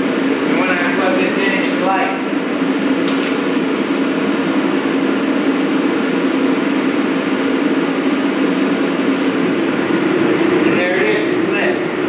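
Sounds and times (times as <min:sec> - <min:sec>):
heater blower fan running: 0:00.0 - 0:12.0.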